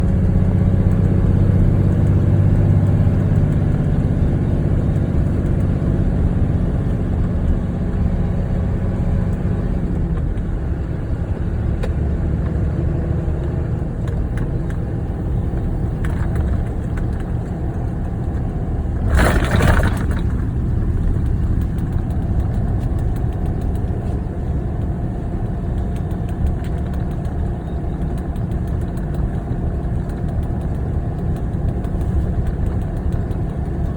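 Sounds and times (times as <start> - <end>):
car engine and tyres rumbling: 0.0 - 33.9.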